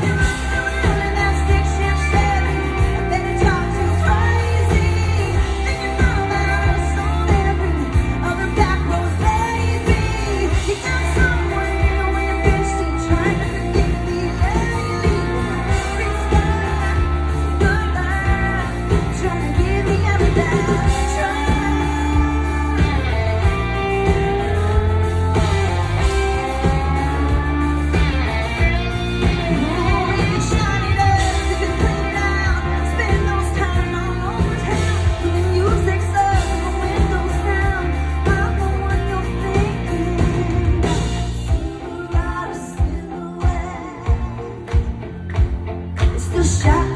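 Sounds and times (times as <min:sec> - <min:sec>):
live country song with band: 0:00.0 - 0:46.9
woman singing: 0:00.0 - 0:46.9.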